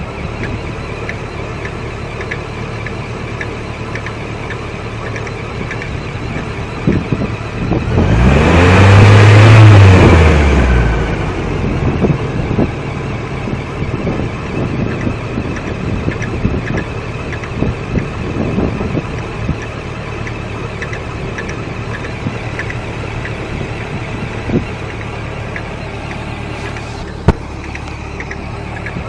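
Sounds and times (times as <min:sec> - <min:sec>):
light repeated ticking: 0:00.0 - 0:07.9, 0:13.1 - 0:29.0
car engine running: 0:00.0 - 0:29.0.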